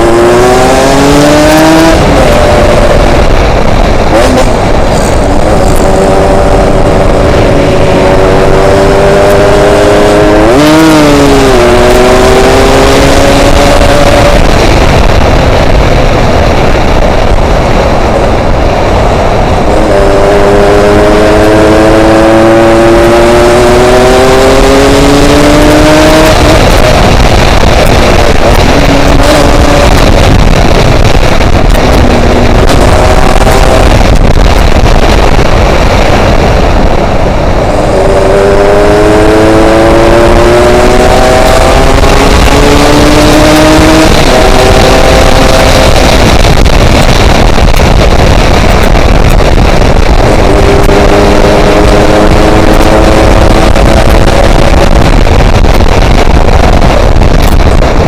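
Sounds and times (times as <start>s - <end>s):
motorcycle engine revving: 0.0s - 58.0s
wind buffeting microphone: 0.0s - 58.0s.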